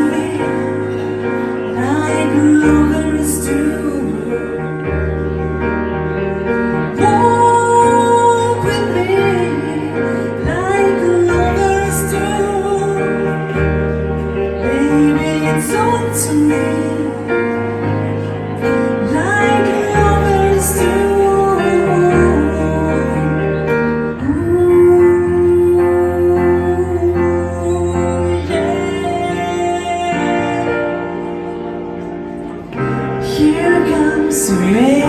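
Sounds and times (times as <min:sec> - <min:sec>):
woman singing: 0:00.0 - 0:05.3, 0:06.8 - 0:31.3, 0:32.8 - 0:35.0
piano chords: 0:00.0 - 0:35.0.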